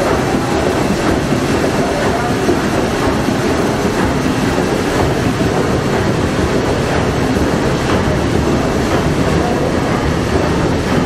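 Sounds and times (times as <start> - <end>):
steam engine clattering: 0.0 - 11.0.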